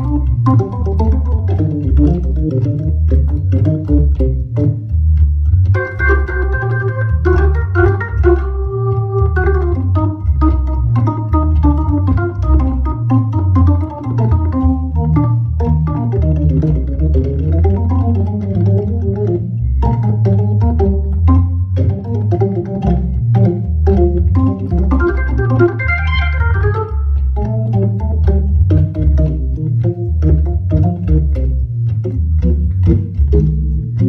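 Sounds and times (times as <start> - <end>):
organ playing chords and runs: 0.0 - 34.0.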